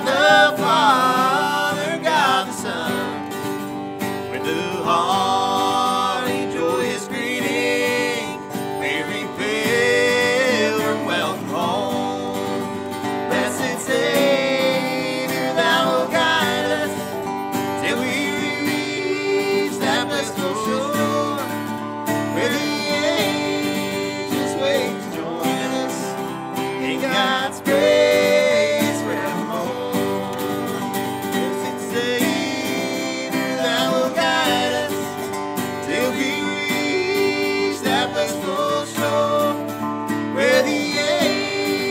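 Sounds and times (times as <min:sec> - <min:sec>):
acoustic guitar strumming chords: 0:00.0 - 0:41.9
resonator guitar melodic lead: 0:00.0 - 0:41.9.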